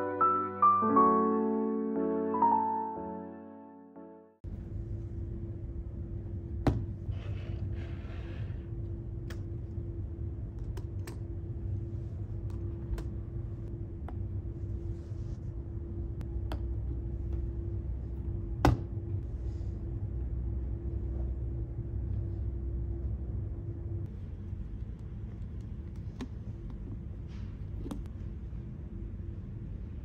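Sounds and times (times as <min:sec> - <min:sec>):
steady low hum: 0:04.4 - 0:30.0.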